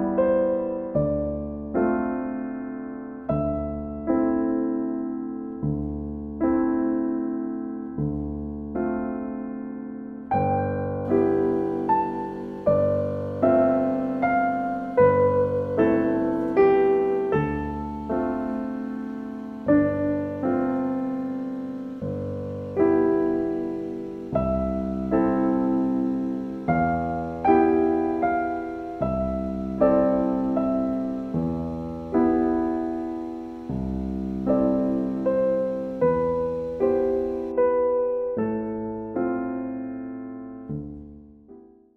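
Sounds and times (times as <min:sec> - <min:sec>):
slow solo piano: 0:00.0 - 0:41.9.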